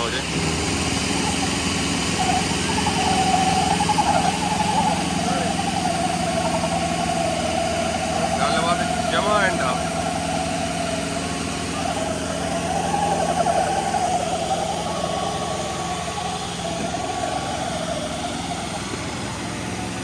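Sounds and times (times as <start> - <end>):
tractor diesel engine running: 0.0 - 20.0
wavering higher tone: 0.0 - 20.0.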